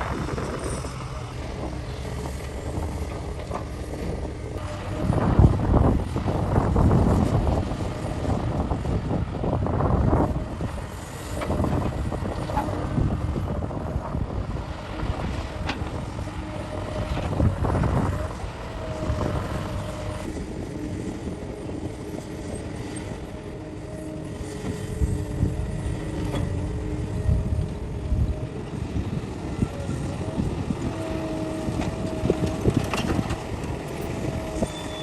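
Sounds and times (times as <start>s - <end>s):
excavator diesel engine droning: 0.0s - 35.0s.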